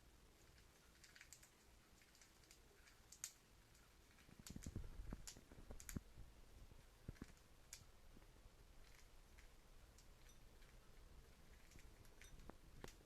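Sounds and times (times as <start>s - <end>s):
faint clicks and soft taps: 0.3s - 13.0s.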